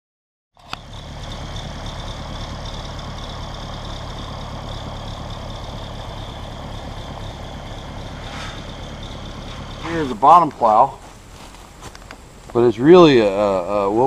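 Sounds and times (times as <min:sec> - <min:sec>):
engine idling: 0:00.6 - 0:14.0
steady high-pitched tone: 0:00.8 - 0:14.0.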